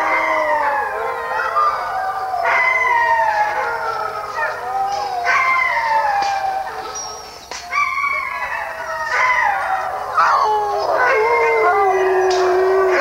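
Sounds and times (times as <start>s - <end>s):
dogs howling: 0.0s - 13.0s.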